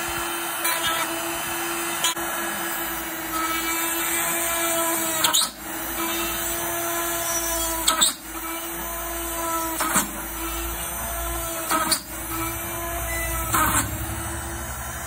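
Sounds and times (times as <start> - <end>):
mini drill whining into metal: 0.0 - 15.0.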